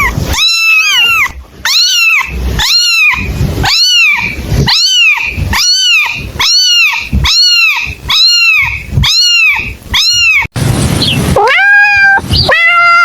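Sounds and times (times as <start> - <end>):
kitten mewing: 0.0 - 10.5, 11.4 - 13.0.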